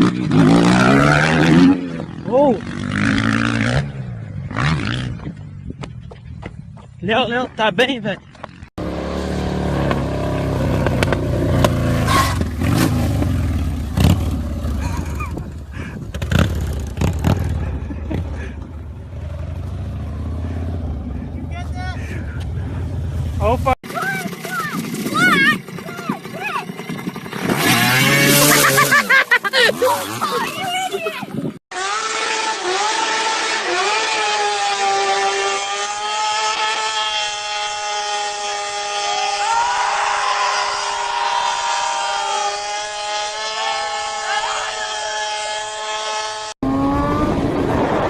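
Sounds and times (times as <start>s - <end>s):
motorcycle engine running: 8.2s - 47.7s.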